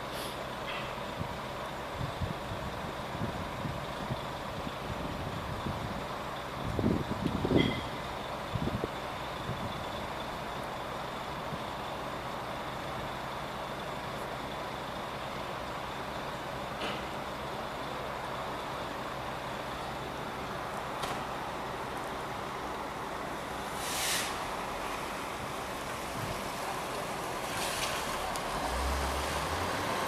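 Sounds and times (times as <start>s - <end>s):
trucks running: 0.0s - 30.0s.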